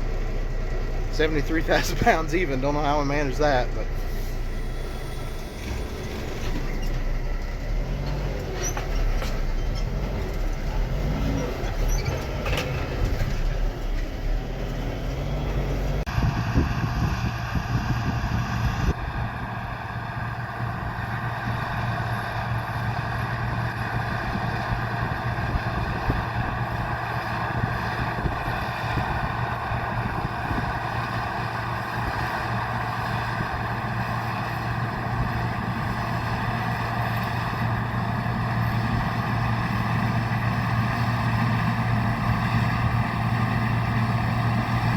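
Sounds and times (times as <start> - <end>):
deep machine drone: 0.0 - 44.9
heavy engine running: 0.0 - 44.9.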